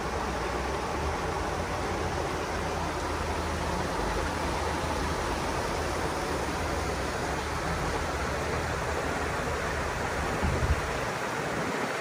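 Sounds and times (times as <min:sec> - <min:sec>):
water running through culvert: 0:00.0 - 0:12.0.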